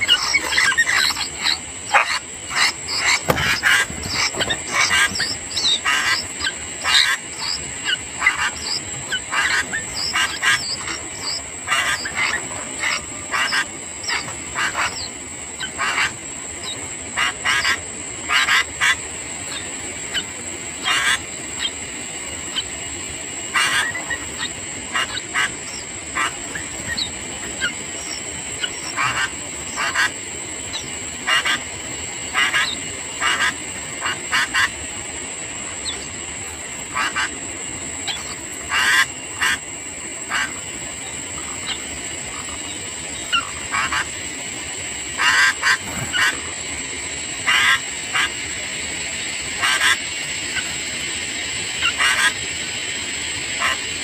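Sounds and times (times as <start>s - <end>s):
bulbuls calling: 0.0s - 54.0s
high-pitched whine: 0.0s - 54.0s.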